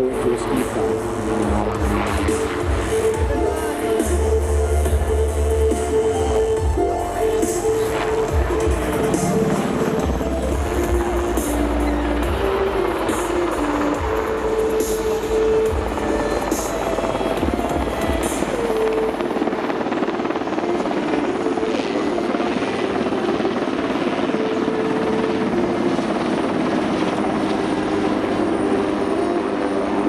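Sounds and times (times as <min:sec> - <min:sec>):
heavy low rotor beat: 0:00.0 - 0:30.0
helicopter rotor and turbine noise: 0:00.0 - 0:30.0.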